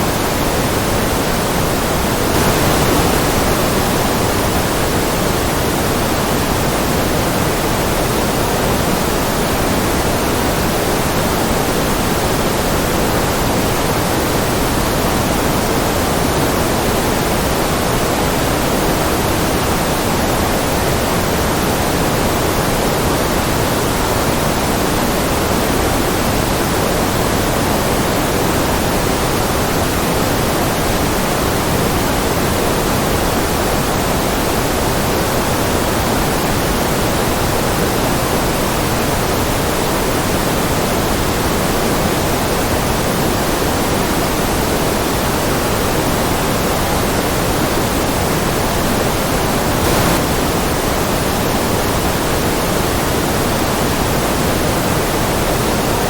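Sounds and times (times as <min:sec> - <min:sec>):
synthetic white noise hiss: 0:00.0 - 0:56.0.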